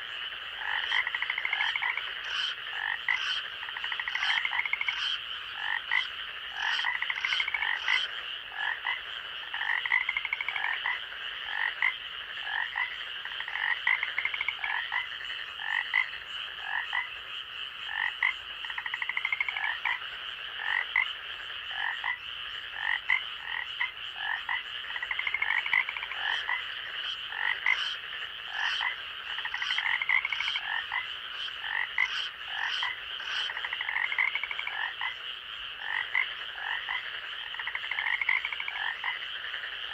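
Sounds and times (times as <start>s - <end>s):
frogs croaking and trilling: 0.0s - 39.9s.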